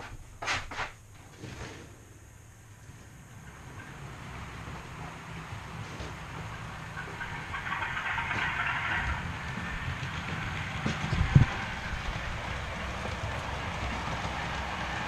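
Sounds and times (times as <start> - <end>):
model train motor and wheels: 0.0 - 15.0.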